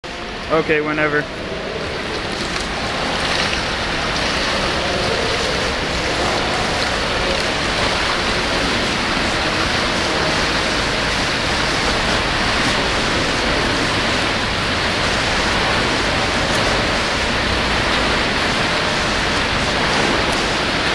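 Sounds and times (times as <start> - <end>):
swimmers splashing in pool: 0.1 - 20.9.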